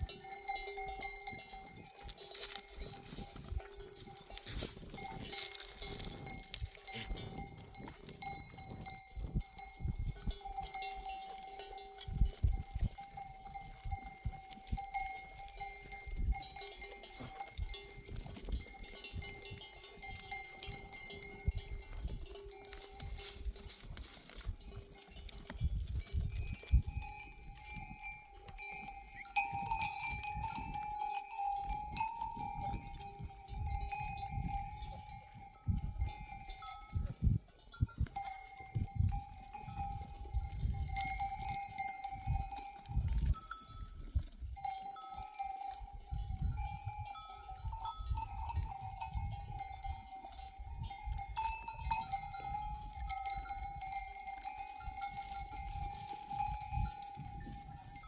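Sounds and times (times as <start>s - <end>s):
sheep bells clanking: 0.0s - 58.0s.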